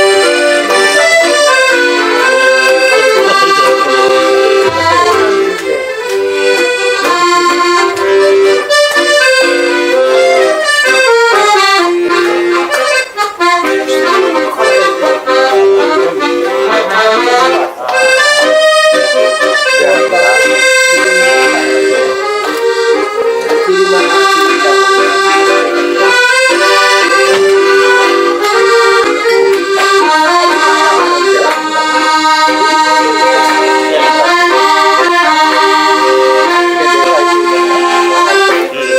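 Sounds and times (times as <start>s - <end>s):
accordion melody: 0.0s - 38.9s.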